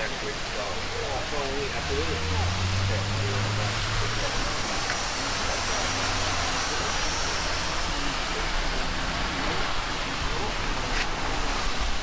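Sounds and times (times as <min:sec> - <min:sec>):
rushing outdoor noise: 0:00.0 - 0:12.0
vehicle engine running: 0:00.0 - 0:12.0.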